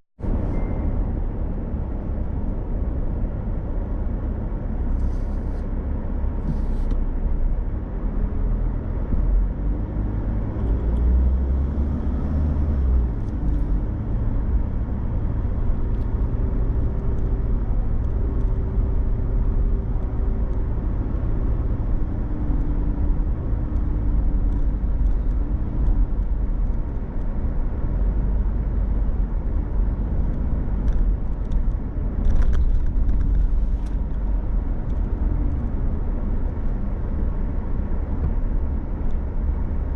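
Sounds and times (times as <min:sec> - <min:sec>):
car engine and road rumble: 0:00.2 - 0:39.9.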